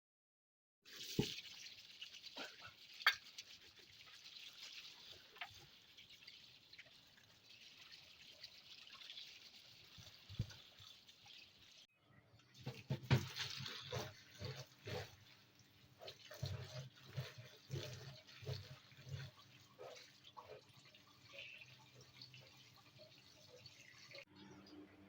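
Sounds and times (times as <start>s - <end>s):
water splashing in a sink: 0.9s - 24.4s.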